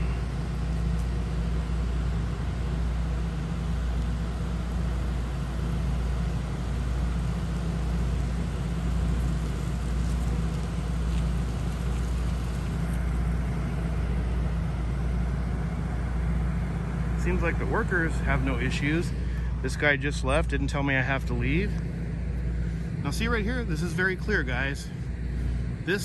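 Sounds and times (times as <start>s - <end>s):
motor vehicle engine rumbling: 0.0s - 26.0s.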